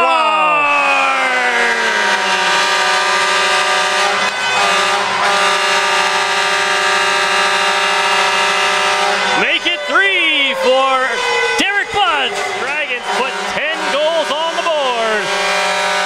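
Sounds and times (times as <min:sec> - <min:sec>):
arena goal horn blast: 0:00.0 - 0:16.0.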